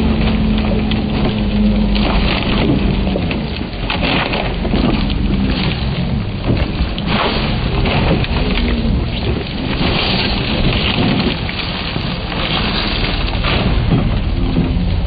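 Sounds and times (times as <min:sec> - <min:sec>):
car engine revving: 0:00.0 - 0:15.0
spinning wheels throwing snow: 0:00.0 - 0:15.0.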